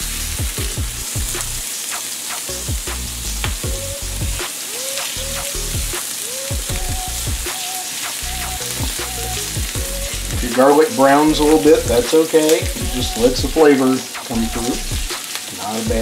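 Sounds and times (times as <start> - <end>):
butter sizzling in a skillet: 0.0 - 16.0.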